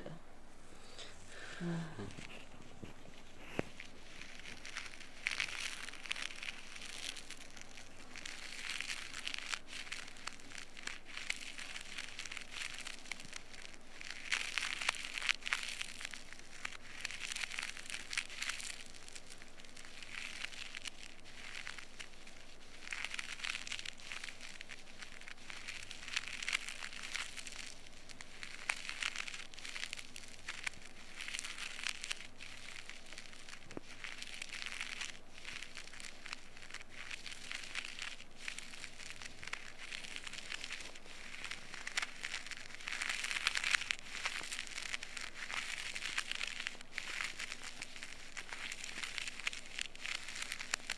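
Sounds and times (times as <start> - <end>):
ear pick scratching in ear: 2.0 - 50.9.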